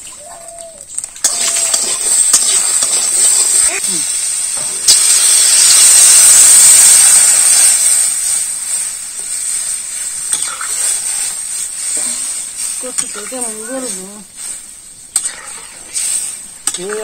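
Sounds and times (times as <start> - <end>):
hiss and sizzle of steam: 0.0 - 17.0.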